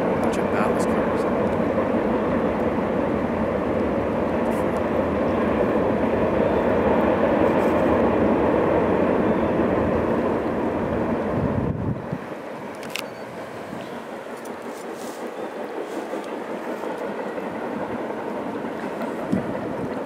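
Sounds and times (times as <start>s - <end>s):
distant freight train rumbling on a bridge: 0.0s - 20.0s.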